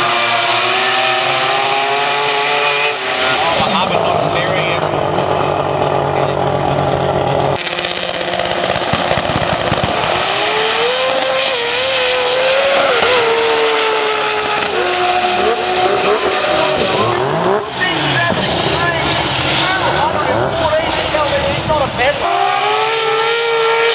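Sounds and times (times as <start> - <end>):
racing car engine changing gear: 0.0 - 23.9.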